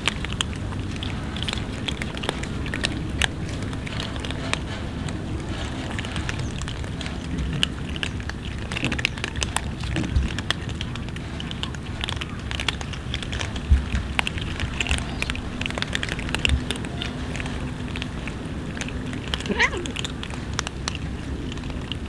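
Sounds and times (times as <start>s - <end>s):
cats chewing and crunching food: 0.0s - 22.0s.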